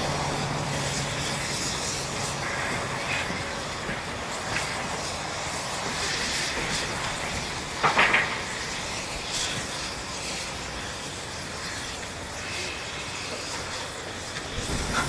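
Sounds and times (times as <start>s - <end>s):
steam locomotive chuffing and hissing: 0.0s - 15.0s.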